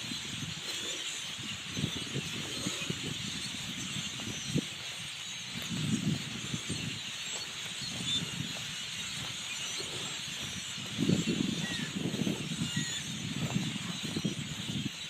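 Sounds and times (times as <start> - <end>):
flock of birds chattering: 0.0 - 15.0.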